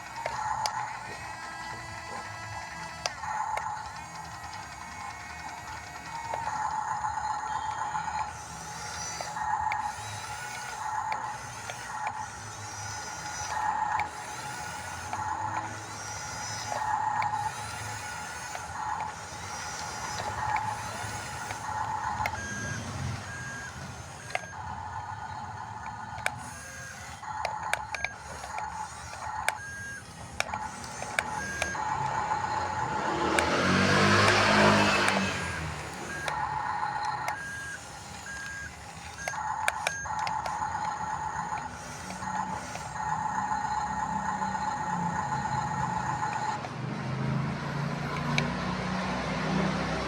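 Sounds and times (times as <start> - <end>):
electric motors whining: 0.0 - 50.0
sharp clicks: 0.0 - 50.0.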